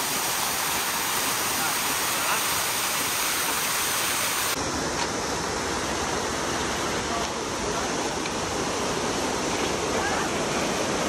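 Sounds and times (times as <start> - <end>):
small waterfall splashing into pool: 0.0 - 11.0.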